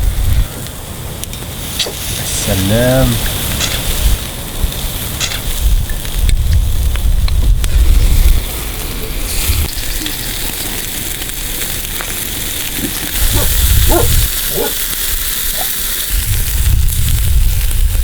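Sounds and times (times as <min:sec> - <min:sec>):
campfire crackling: 0:00.0 - 0:18.0
food sizzling: 0:00.0 - 0:18.0
wind rumbling on microphone: 0:00.0 - 0:18.0.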